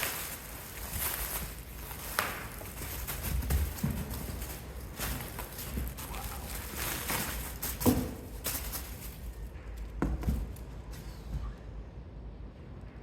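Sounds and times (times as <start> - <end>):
shuffling and light clatter: 0.0 - 11.6.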